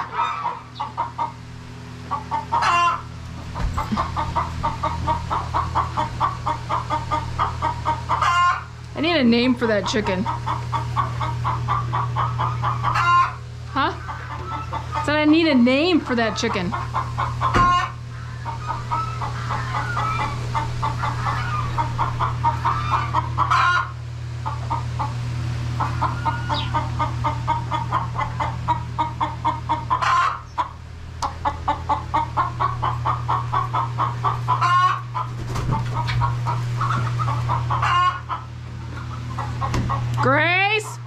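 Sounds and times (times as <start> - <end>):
hen cackling: 0.0 - 8.8, 9.6 - 40.4.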